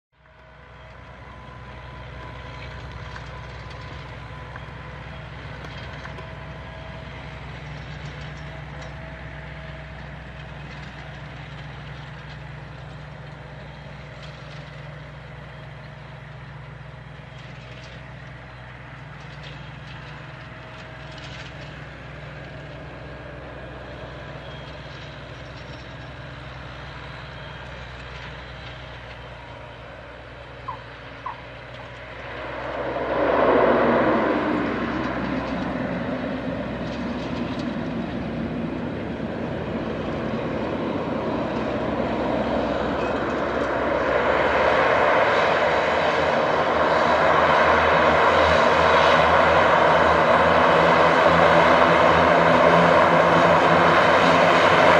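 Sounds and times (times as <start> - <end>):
turboprop aircraft engine drone: 0.1 - 54.9.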